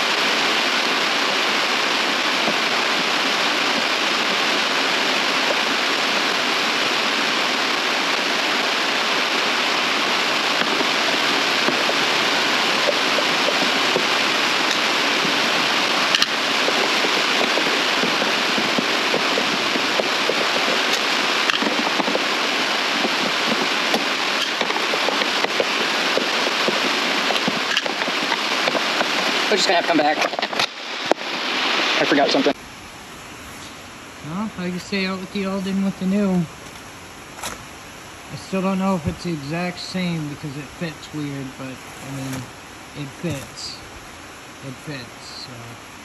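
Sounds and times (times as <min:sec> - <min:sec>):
loud steady rushing noise: 0:00.0 - 0:46.0.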